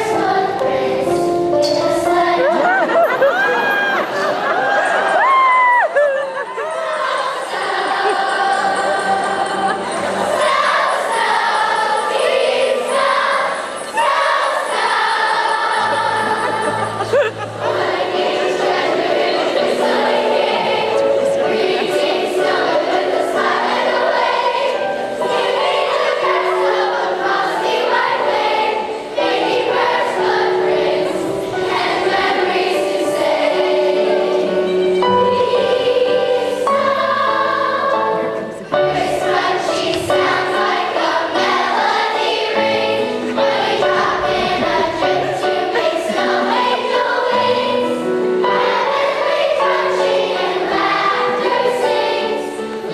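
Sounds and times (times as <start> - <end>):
choir singing: 0.0 - 52.9.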